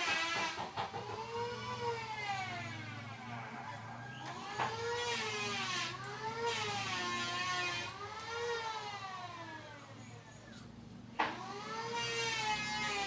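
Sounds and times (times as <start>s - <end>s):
motor whining: 1.0s - 13.0s.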